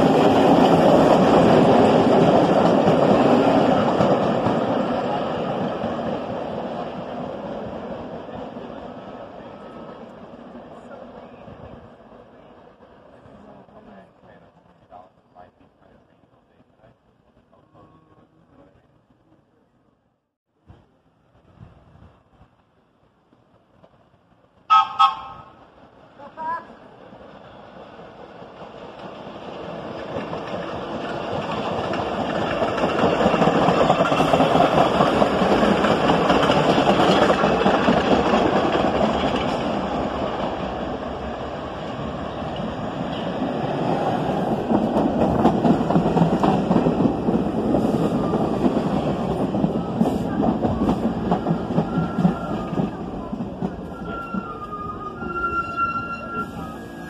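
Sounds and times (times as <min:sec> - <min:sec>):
subway train rumbling on track: 0:00.0 - 0:57.0.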